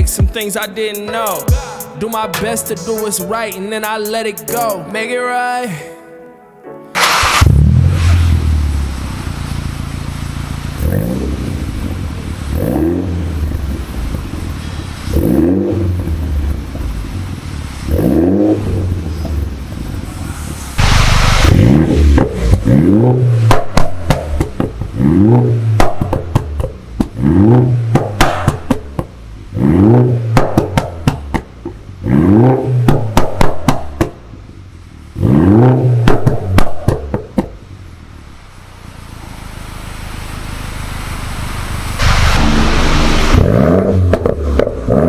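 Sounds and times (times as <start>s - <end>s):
car engine revving in blips: 7.0s - 45.0s
exhaust crackles and pops: 7.0s - 45.0s.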